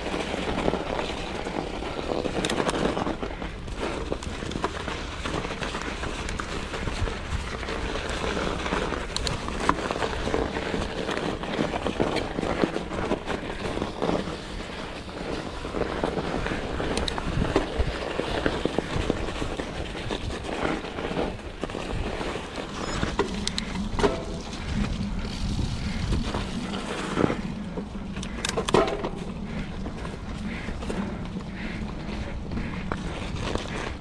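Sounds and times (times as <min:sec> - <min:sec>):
bike clicks and knocks: 0:00.0 - 0:34.0
bike tyres rolling over snow and mud: 0:00.0 - 0:34.0.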